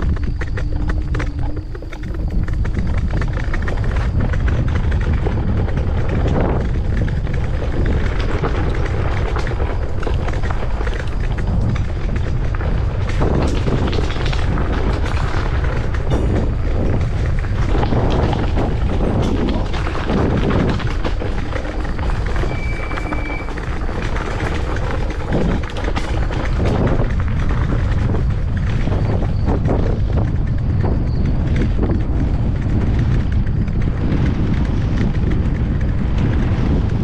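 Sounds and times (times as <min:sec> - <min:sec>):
tyre and frame rattle: 0:00.0 - 0:37.0
wind buffeting: 0:00.0 - 0:37.0.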